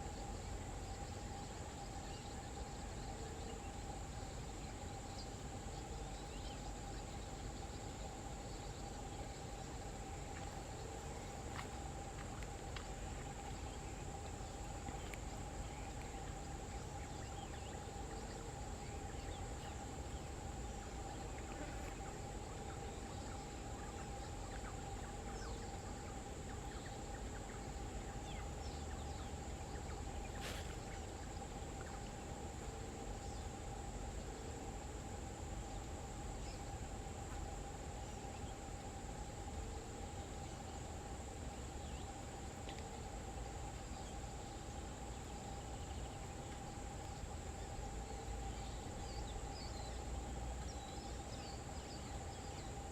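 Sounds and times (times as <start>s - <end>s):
insect chorus: 0.0s - 52.9s.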